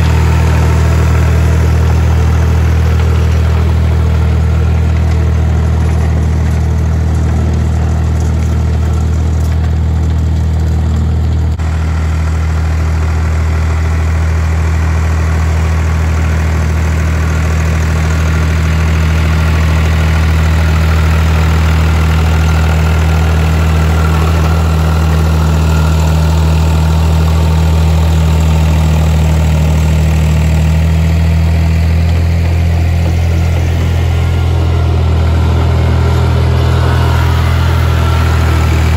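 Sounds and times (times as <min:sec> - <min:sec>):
rotary tiller in soil: 0:00.0 - 0:38.9
tractor engine running: 0:00.0 - 0:38.9.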